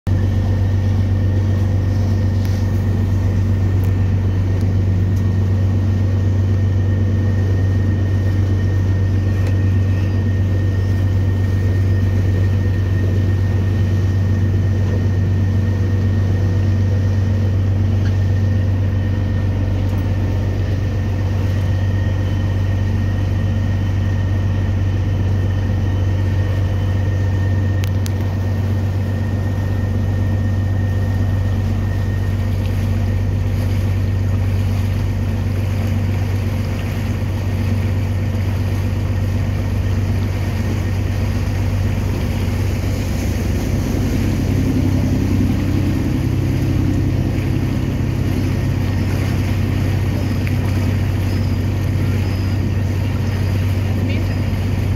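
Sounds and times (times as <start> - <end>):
motorboat engine drone: 0.1 - 54.9
thin steady whine: 0.1 - 54.9
water hissing along hull: 0.1 - 54.9.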